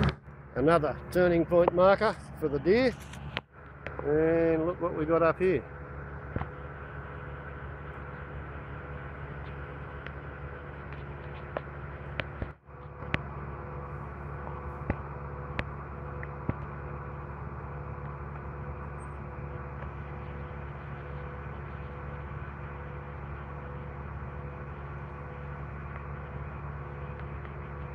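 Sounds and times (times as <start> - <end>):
engine idling hum: 0.0 - 27.9.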